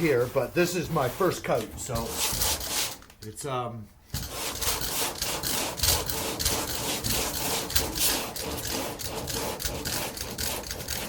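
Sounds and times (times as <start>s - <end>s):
sandpaper rasping on filler: 0.0s - 3.0s, 4.1s - 11.0s.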